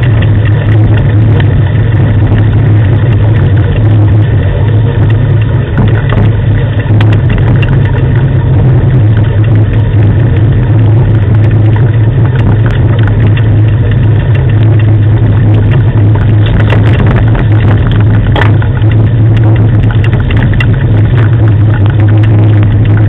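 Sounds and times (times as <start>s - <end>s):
rig rolling over gravel: 0.0s - 23.0s
sharp clicks and knocks: 0.0s - 23.0s.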